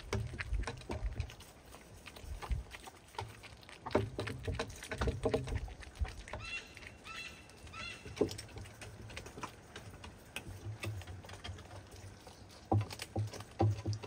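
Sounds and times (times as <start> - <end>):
fox chewing meat: 0.0 - 14.0.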